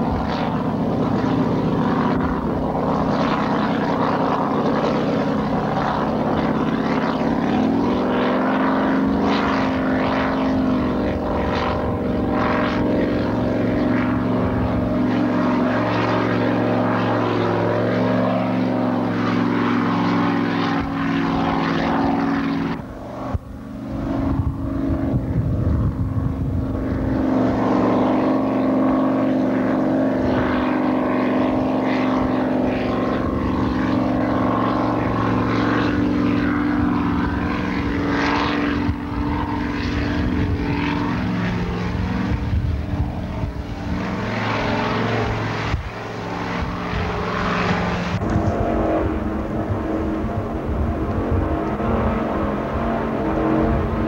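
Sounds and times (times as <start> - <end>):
hull rushing through spray: 0.0 - 54.0
powerboat engines droning: 0.0 - 54.0.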